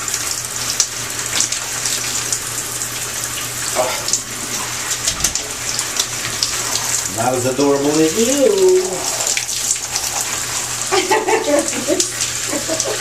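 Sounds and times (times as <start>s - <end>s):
shower water spraying: 0.0s - 13.0s.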